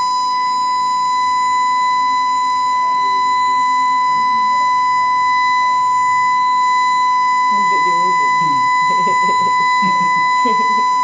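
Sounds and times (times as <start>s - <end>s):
high-pitched electronic tone: 0.0s - 11.0s.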